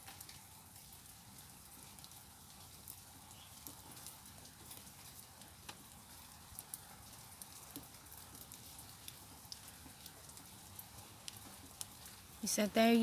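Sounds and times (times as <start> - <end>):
light rain patter: 0.0 - 13.0.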